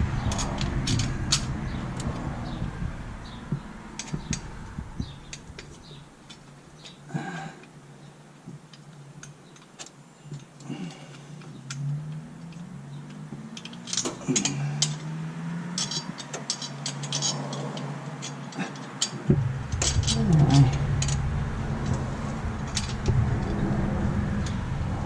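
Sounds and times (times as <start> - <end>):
metal parts clicking and clinking: 0.2 - 7.8, 8.7 - 23.8.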